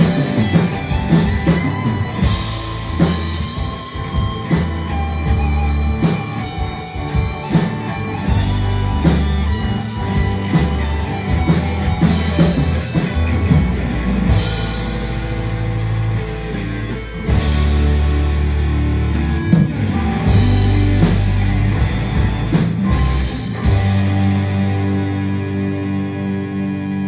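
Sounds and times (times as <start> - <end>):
drum kit: 0.0 - 26.0
electric guitar: 0.0 - 27.0
sustained bass notes: 0.0 - 27.0.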